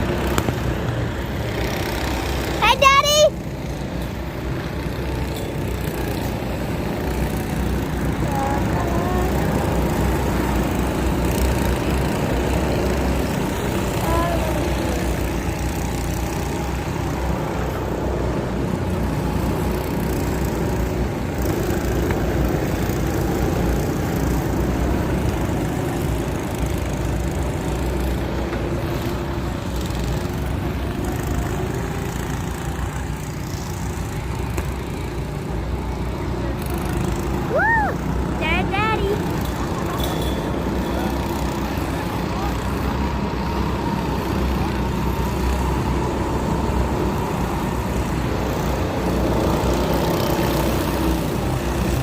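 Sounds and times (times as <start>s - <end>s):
go-kart engines running: 0.0s - 52.0s.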